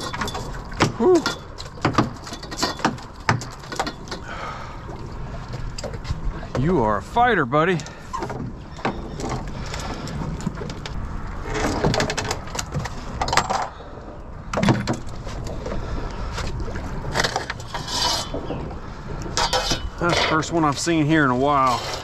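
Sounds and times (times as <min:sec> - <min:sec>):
water sloshing against hull: 0:00.0 - 0:22.0.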